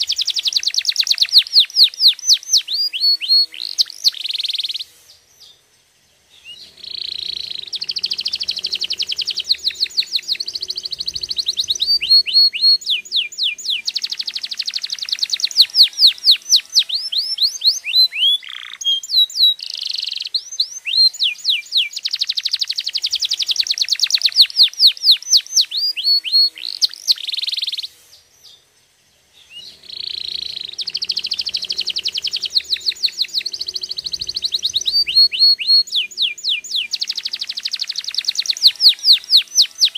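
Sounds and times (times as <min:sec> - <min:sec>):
canary singing: 0:00.0 - 0:05.6, 0:06.2 - 0:28.6, 0:29.3 - 0:39.9.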